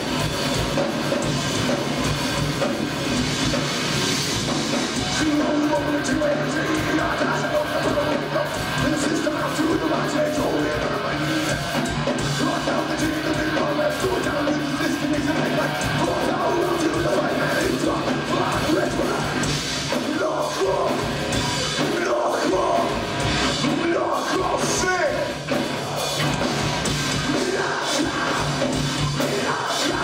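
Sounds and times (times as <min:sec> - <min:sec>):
metal band playing live: 0:00.0 - 0:30.0.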